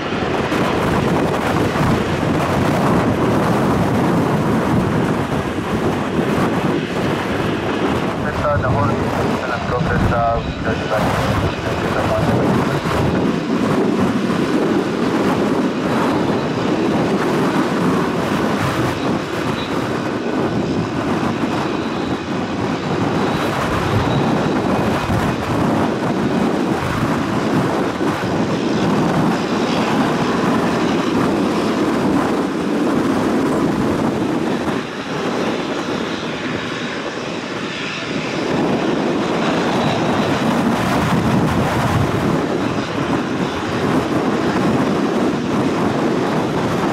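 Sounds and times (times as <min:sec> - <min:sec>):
turboprop engine running: 0:00.0 - 0:46.9
wind rumble on microphone: 0:00.0 - 0:46.9.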